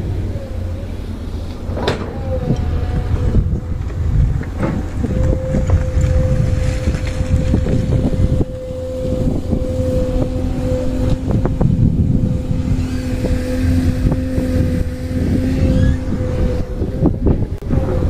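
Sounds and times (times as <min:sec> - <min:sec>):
engine droning hum: 0:00.0 - 0:18.0
wind noise on microphone: 0:00.0 - 0:18.0.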